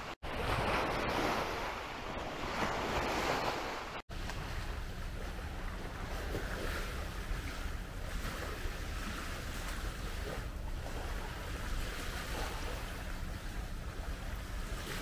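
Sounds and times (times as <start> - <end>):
small waves washing onto sand: 0.0 - 15.0.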